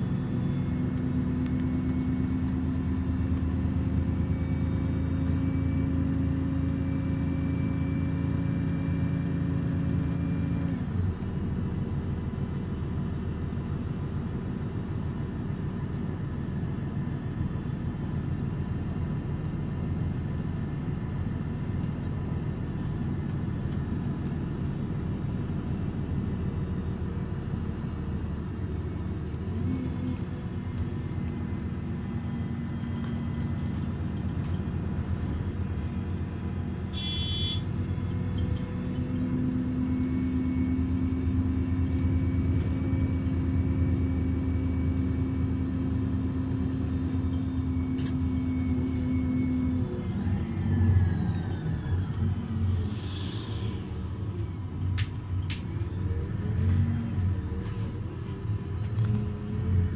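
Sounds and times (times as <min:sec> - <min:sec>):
bus engine idling: 0:00.0 - 0:08.5, 0:10.5 - 0:59.9.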